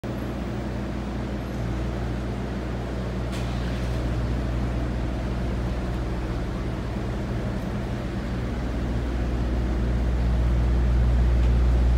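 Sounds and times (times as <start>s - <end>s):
truck engine idling: 0.0s - 11.9s.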